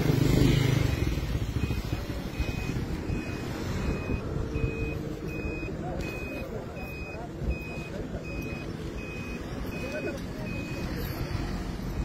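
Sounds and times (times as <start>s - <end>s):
short high electronic beeps: 0.8s - 11.3s.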